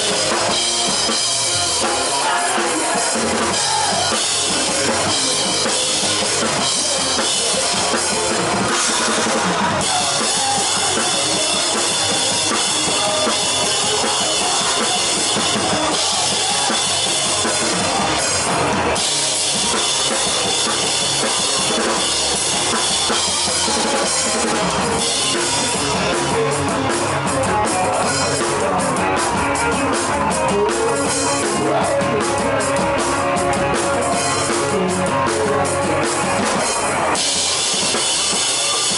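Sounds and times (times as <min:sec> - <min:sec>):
live rock band: 0:00.0 - 0:38.9
bass drum: 0:02.8 - 0:38.9.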